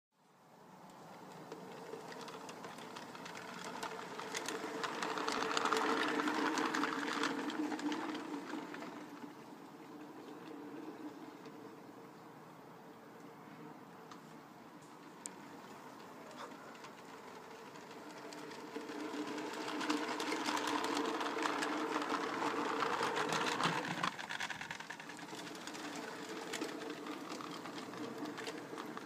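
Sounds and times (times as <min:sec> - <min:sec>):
model train whirring and clicking: 0:00.3 - 0:29.0.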